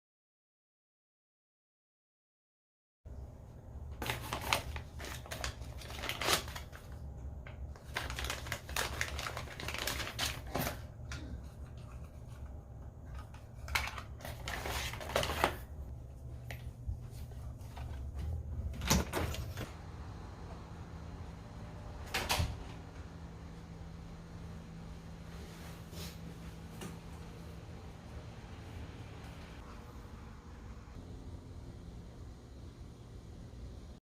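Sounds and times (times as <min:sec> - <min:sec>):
steady low hum: 0:03.1 - 0:34.0.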